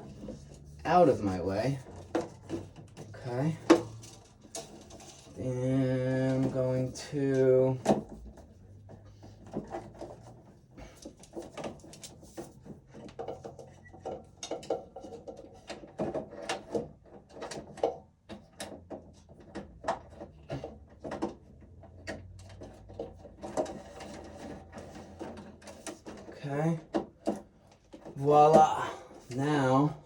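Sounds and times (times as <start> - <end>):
clicks and rattles of wiring: 0.0 - 30.0.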